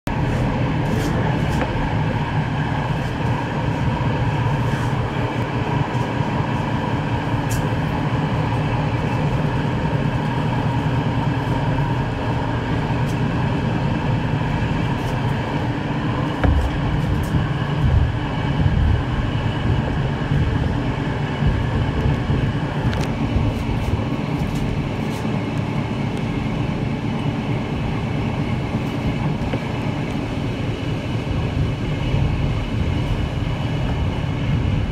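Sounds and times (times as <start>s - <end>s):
railbus engine drone: 0.0s - 34.9s
wheel-on-rail rumble: 0.1s - 34.9s.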